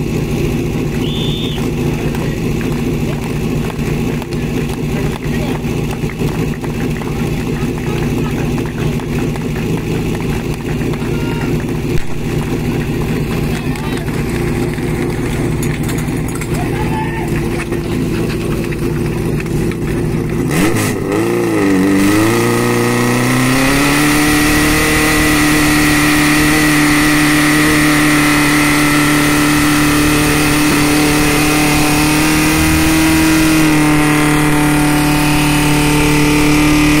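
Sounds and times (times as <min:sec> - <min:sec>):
pump engine revving: 0:00.0 - 0:37.0.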